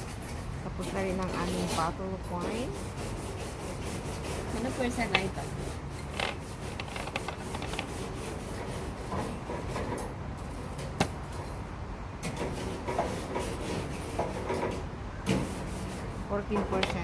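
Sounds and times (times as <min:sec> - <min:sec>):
scrubbing barbecue grill: 0:00.0 - 0:11.6, 0:12.2 - 0:17.0.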